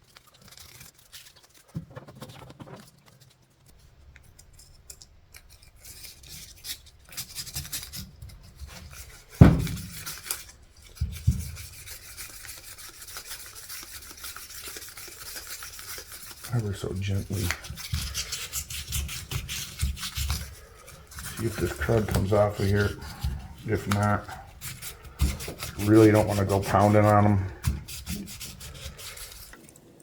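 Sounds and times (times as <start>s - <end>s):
sandpaper rasping on metal: 4.4s - 29.6s.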